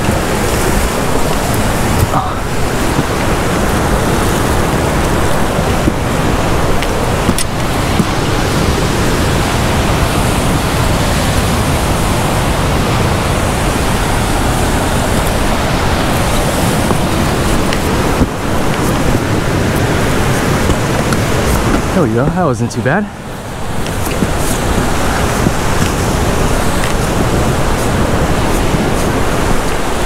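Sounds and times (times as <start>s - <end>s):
ocean surf breaking on rocks: 0.0s - 30.0s
wind buffeting microphone: 0.0s - 30.0s.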